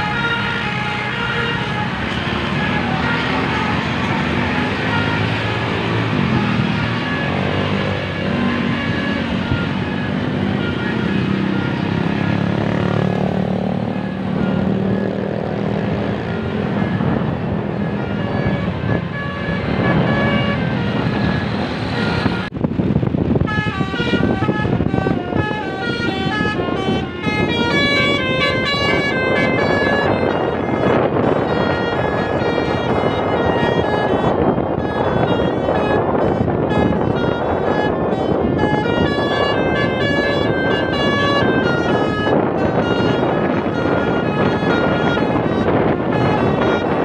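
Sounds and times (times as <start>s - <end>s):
bus horn playing melody: 0.0s - 22.5s, 23.4s - 47.0s
buses and motorcycles passing: 0.0s - 47.0s.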